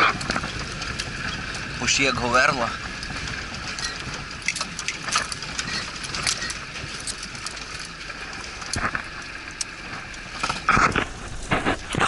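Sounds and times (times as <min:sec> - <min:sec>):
body rattles and knocks: 0:00.0 - 0:12.0
vehicle engine running: 0:00.0 - 0:12.0.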